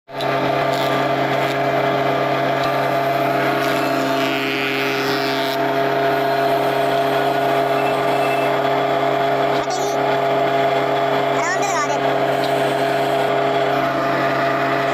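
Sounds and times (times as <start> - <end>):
wood planer motor hum: 0.1 - 14.9
planer hiss cutting wood: 0.2 - 14.9.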